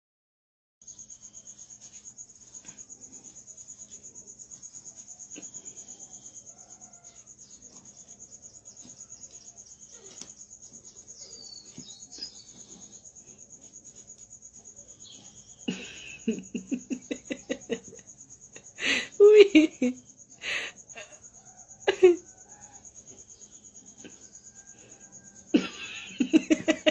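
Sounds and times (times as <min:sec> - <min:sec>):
cricket chirping: 0:00.8 - 0:26.9.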